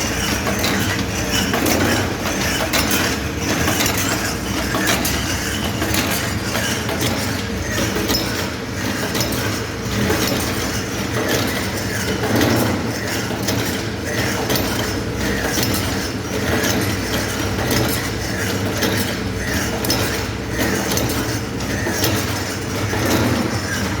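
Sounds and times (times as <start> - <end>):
rapid clatter of clicks: 0.0 - 24.0.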